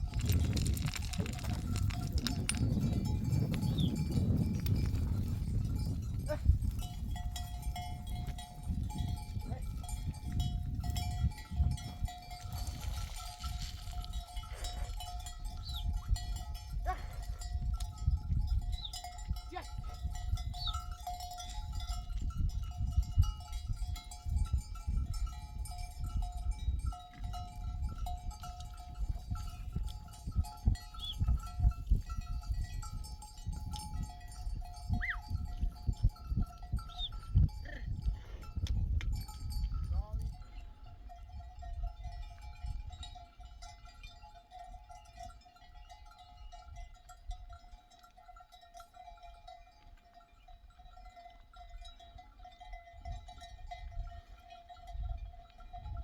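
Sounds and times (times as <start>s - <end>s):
sheep bells clinking: 0.0s - 56.0s.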